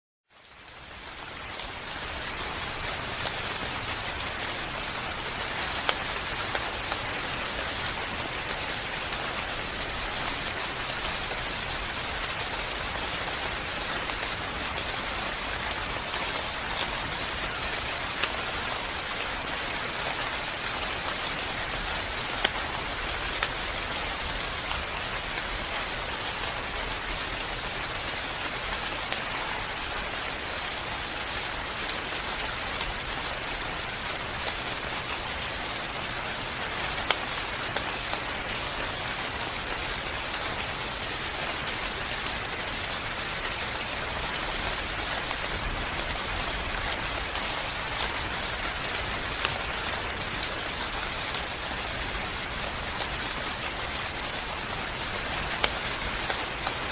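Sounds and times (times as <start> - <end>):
steady rain hiss: 0.3 - 56.9
raindrops ticking on surface: 0.4 - 56.9.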